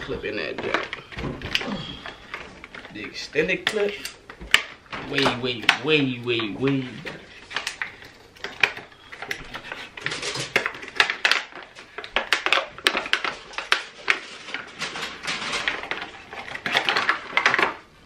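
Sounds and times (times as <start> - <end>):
packaging crackling and rustling: 0.0 - 18.0.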